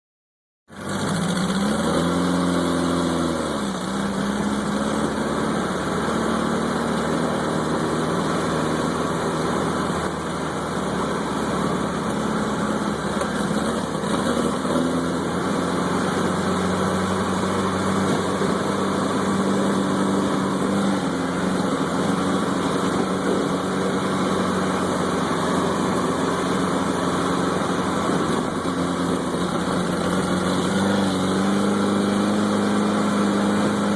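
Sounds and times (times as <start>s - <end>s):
vehicle engine running: 0.7s - 33.9s.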